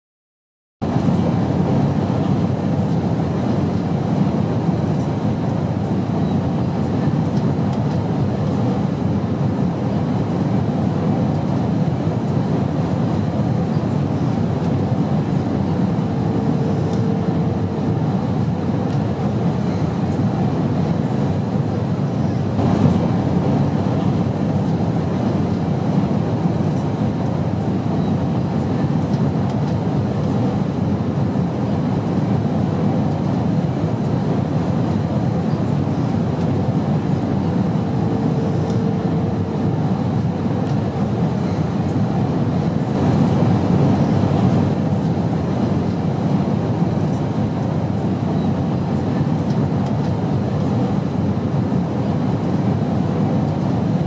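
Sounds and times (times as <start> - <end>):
airplane drone: 0.8 - 54.0.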